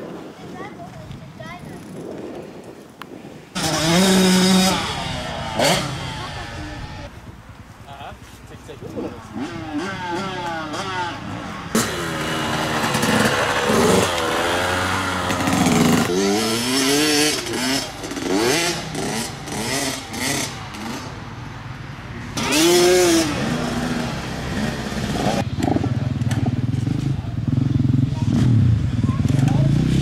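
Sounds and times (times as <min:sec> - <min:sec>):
dirt bike engines revving: 0:03.5 - 0:30.0.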